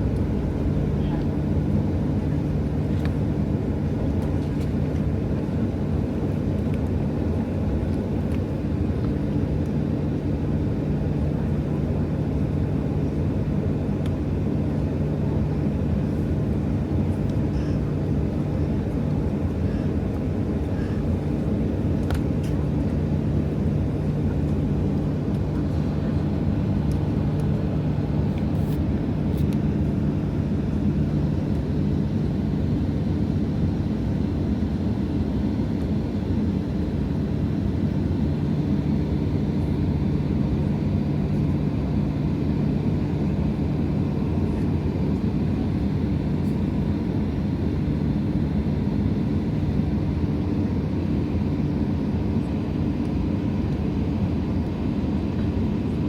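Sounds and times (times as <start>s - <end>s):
constant low hum: 0.0s - 56.0s
plane engine drone: 0.0s - 56.0s.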